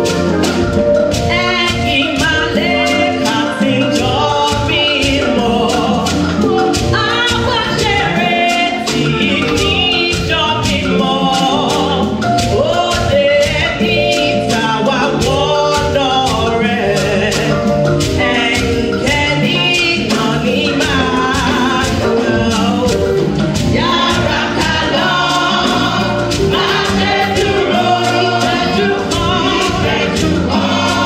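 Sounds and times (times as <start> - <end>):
choir singing gospel: 0.0 - 31.0
drums steady beat: 0.0 - 31.0.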